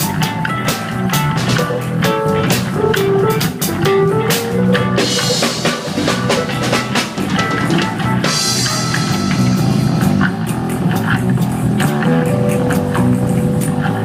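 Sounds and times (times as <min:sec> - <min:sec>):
reggae dub band music: 0:00.0 - 0:14.0.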